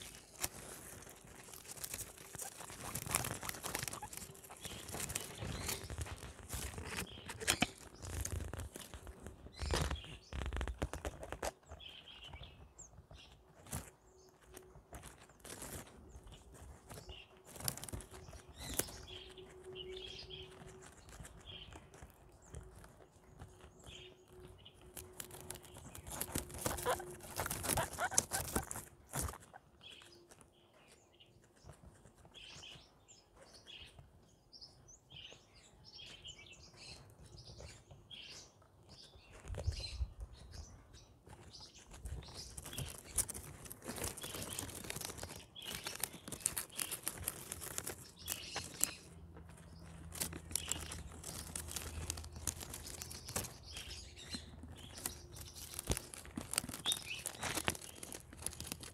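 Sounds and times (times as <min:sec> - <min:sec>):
guinea pigs chewing plants: 0:00.0 - 0:58.9.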